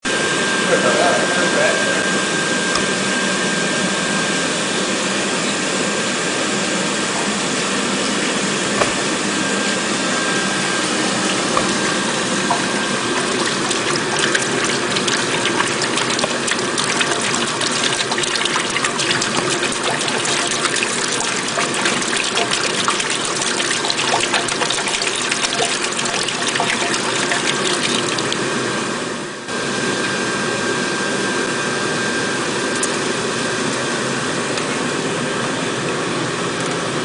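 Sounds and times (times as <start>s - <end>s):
water heating rushing noise: 0.0s - 37.0s.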